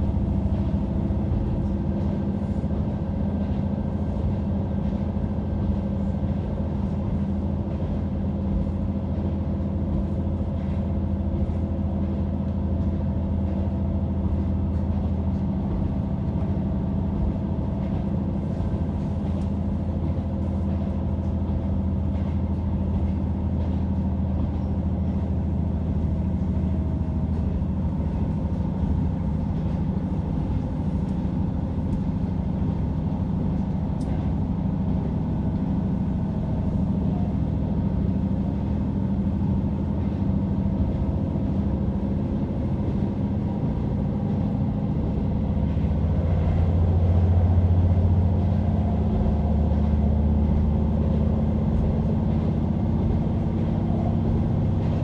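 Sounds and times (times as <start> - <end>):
railcar engine and wheel drone: 0.0 - 55.0.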